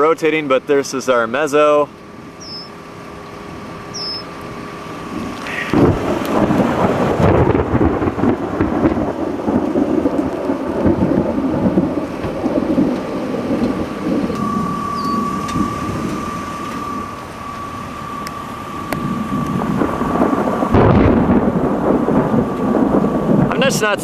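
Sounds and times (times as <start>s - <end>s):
thunder clap and rolling rumble: 3.3s - 24.0s.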